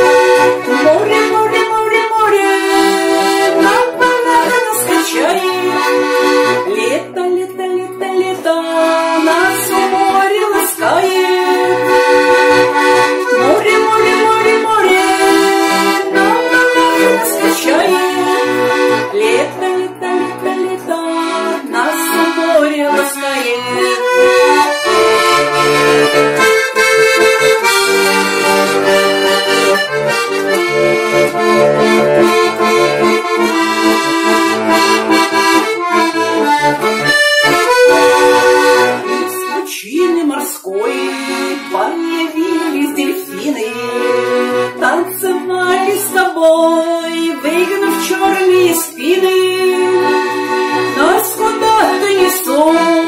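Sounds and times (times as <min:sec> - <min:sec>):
button accordion playing: 0:00.0 - 0:53.0.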